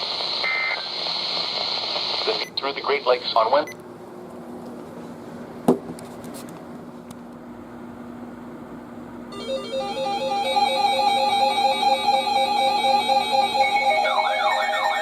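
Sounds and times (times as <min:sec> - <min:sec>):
steady hum with hiss: 0:00.0 - 0:15.0.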